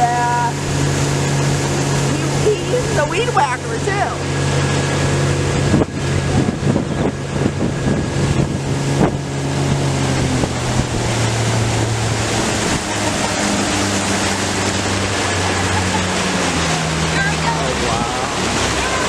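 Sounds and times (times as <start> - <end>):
motorboat engine running: 0.0 - 19.0
rushing water: 0.0 - 19.0
wind buffeting microphone: 0.0 - 19.0.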